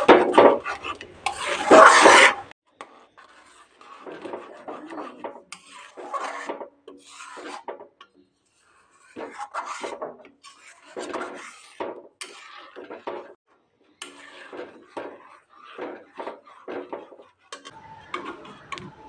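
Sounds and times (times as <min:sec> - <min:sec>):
metal spatula scraping metal pan: 0:00.0 - 0:19.0.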